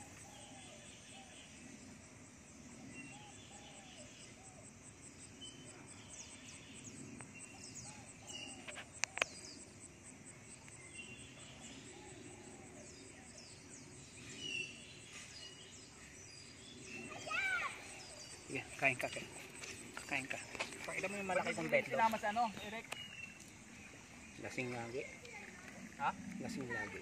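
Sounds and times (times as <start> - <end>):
small birds chirping: 5.2 - 27.0.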